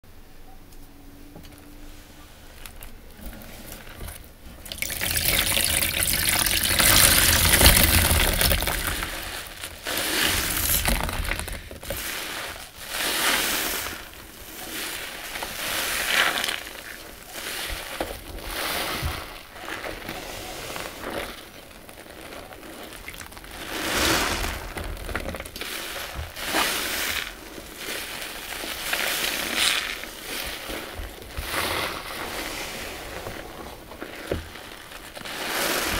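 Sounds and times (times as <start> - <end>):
wet sponges squelching: 1.8 - 35.9.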